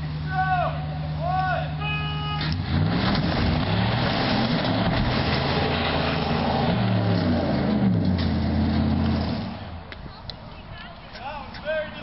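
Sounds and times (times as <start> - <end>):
pickup truck engines revving: 0.0 - 9.9.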